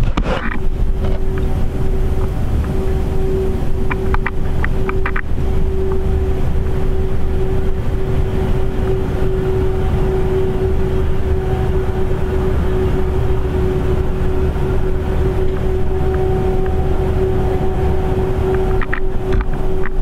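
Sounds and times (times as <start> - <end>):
distant horn-like drone: 0.0 - 20.0
low background rumble: 0.0 - 20.0.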